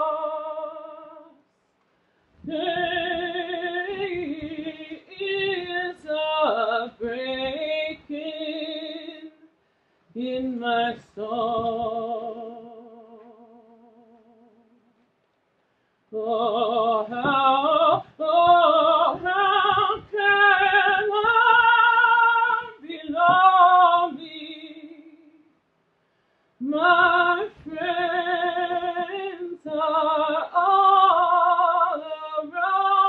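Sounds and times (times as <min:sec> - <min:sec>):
woman singing unaccompanied: 0:00.0 - 0:01.4, 0:02.4 - 0:09.5, 0:10.2 - 0:14.8, 0:16.1 - 0:25.6, 0:26.6 - 0:33.0.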